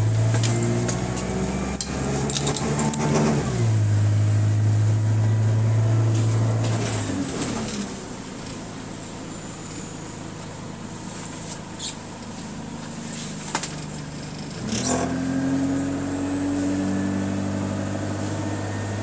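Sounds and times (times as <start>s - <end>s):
bus diesel engine: 0.0s - 19.0s.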